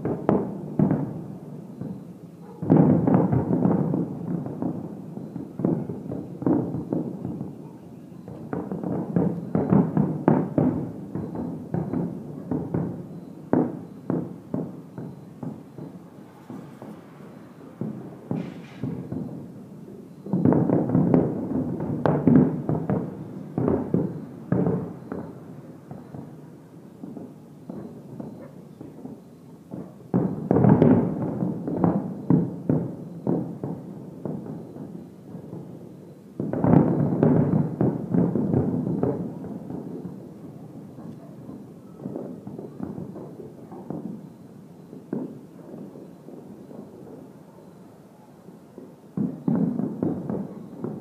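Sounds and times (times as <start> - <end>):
fireworks bangs: 0.0 - 51.0.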